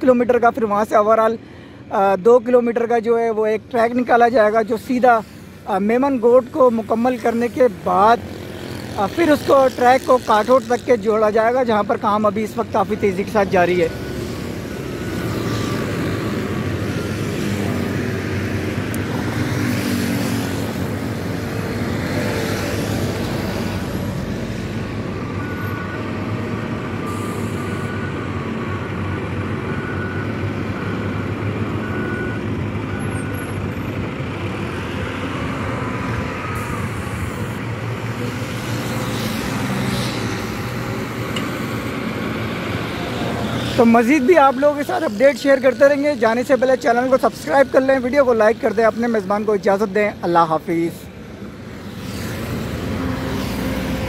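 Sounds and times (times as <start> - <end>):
trucks and cars passing: 0.0 - 54.0.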